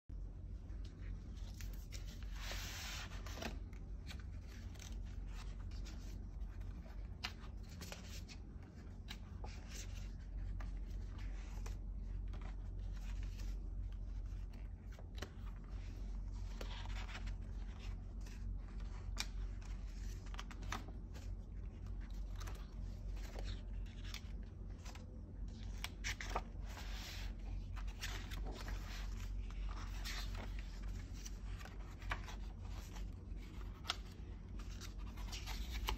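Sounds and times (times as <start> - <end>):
steady low hum: 0.1 - 35.9
book pages turning: 0.7 - 35.9.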